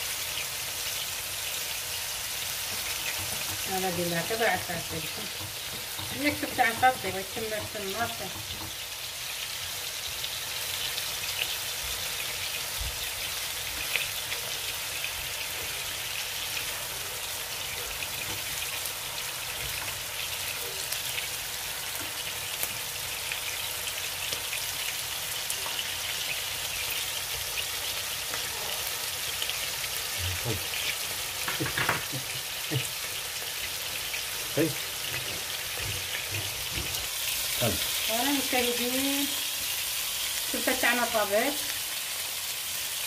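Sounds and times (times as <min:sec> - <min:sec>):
meat sizzling in hot oil: 0:00.0 - 0:43.0.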